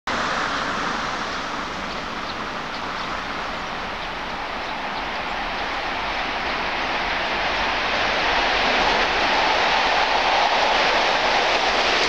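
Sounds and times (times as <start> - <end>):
distant train rolling: 0.1 - 12.0.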